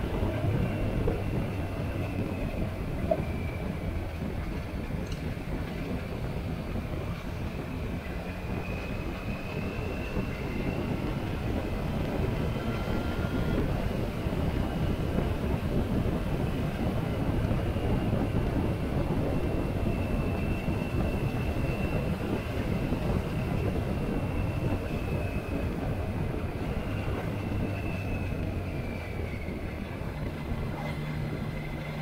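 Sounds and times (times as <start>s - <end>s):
wind rushing over camera: 0.0s - 32.0s.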